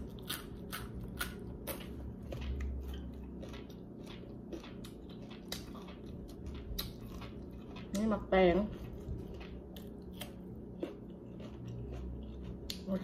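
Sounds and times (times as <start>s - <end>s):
chewing crunchy vegetable: 0.0s - 13.0s.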